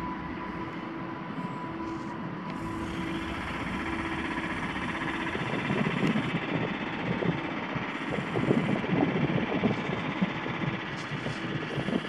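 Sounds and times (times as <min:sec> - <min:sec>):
electric train humming: 0:00.0 - 0:12.0
wind rumbling on microphone: 0:02.2 - 0:12.0.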